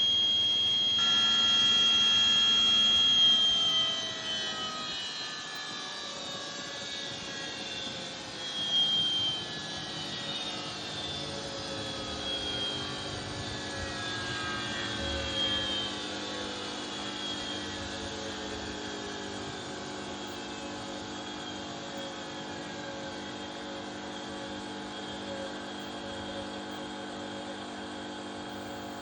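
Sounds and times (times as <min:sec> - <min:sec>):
washing machine motor whine: 0:00.0 - 0:29.0.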